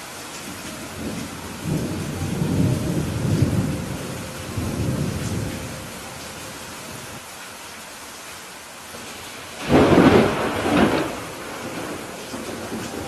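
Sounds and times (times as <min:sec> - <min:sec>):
steady rain: 0:00.0 - 0:13.0
thunder rumble: 0:00.4 - 0:07.2, 0:09.2 - 0:13.0.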